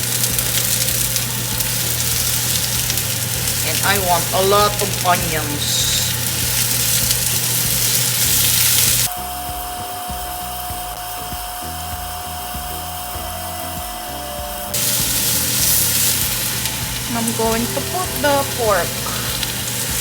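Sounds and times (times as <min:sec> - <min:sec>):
onions sizzling in a pan: 0:00.0 - 0:20.0.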